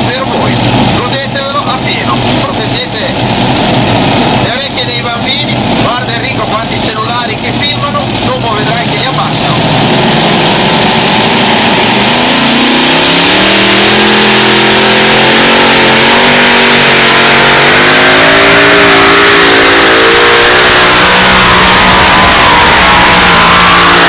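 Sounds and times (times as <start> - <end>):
pulling tractor engines labouring: 0.0 - 24.0.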